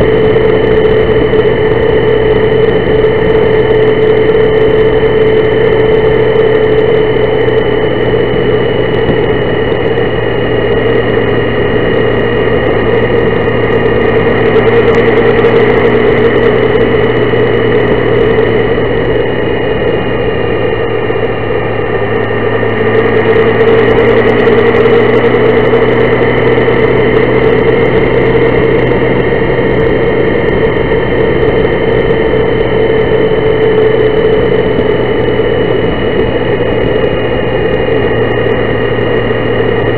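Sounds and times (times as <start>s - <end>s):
motorcycle engine drone: 0.0s - 39.9s
road noise: 0.0s - 39.9s.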